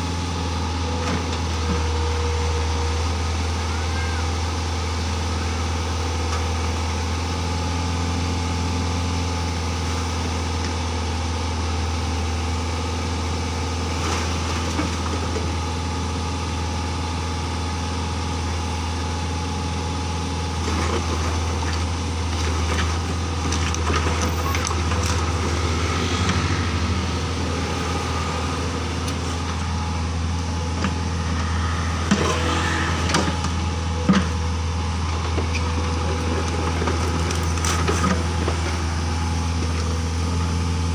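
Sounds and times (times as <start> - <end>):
excavator engine idling: 0.0 - 40.9.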